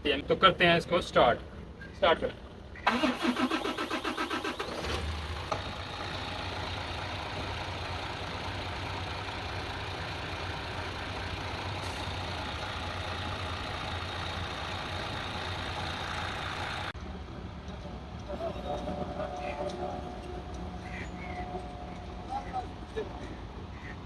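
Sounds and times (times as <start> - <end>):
diesel engine cranking and idling: 2.5 - 23.8.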